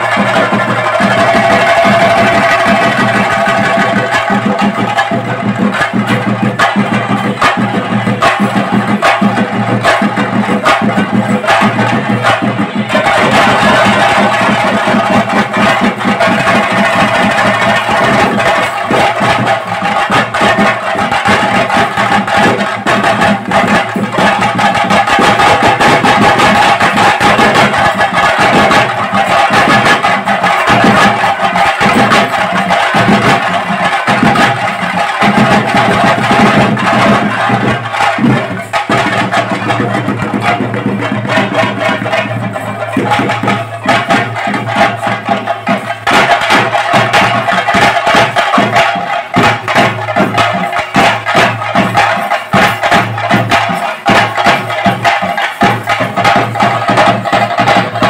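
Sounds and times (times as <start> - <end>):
drum ensemble playing: 0.0 - 58.0.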